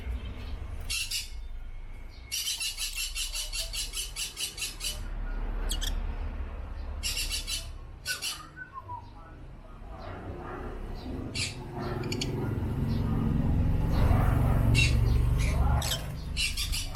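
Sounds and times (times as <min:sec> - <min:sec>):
lovebirds chirping: 0:00.0 - 0:06.1, 0:06.8 - 0:09.2, 0:10.8 - 0:16.9.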